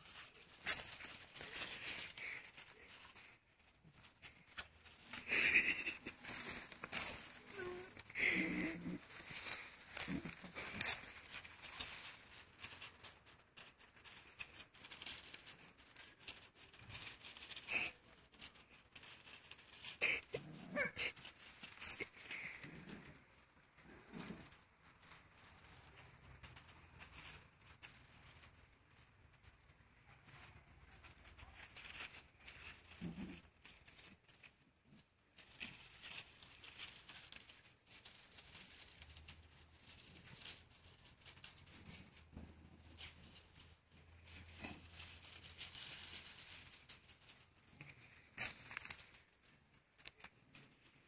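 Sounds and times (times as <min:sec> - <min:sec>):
dogs scuffling: 0:00.0 - 0:51.0
soft pattering: 0:00.0 - 0:51.0.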